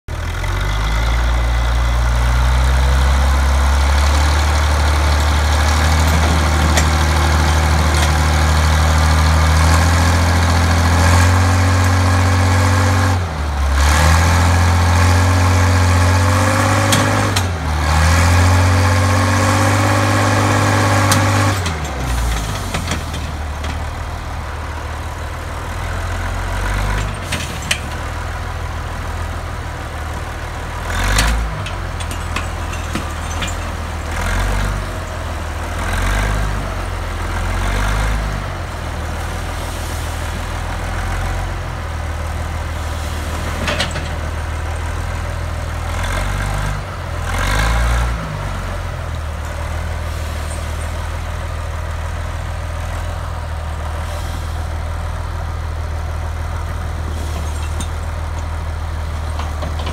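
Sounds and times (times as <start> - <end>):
heavy diesel engine running: 0.1 - 59.9.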